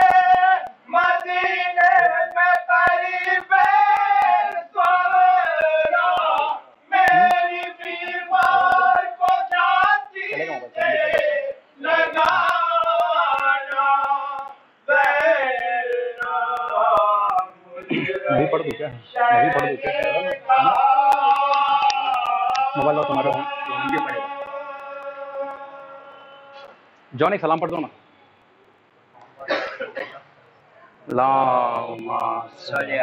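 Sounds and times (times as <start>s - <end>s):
men chanting a lament: 0.0s - 26.8s, 31.2s - 33.0s.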